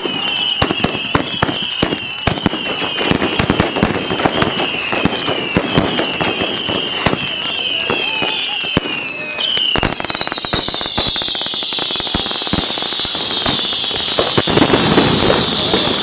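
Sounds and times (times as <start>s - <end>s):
fireworks bangs and crackle: 0.0s - 16.0s
high falling whistle: 0.0s - 16.0s.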